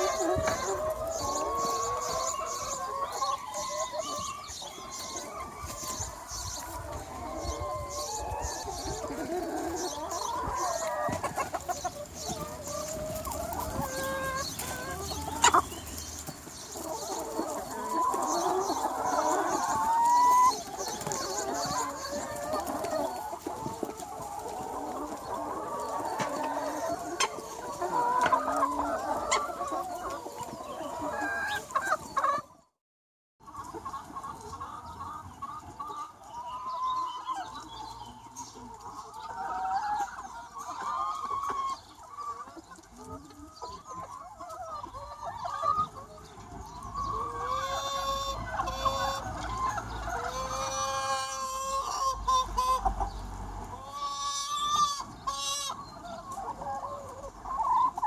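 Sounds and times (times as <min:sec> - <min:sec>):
chickens clucking: 0:00.0 - 0:32.8, 0:33.4 - 0:58.0.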